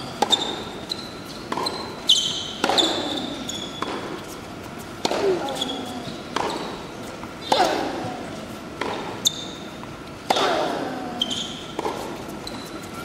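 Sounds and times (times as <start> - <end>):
shoes squeaking on court: 0.0 - 10.4, 11.1 - 13.0
racket striking tennis ball: 0.0 - 12.4
tennis ball bouncing: 0.0 - 12.9.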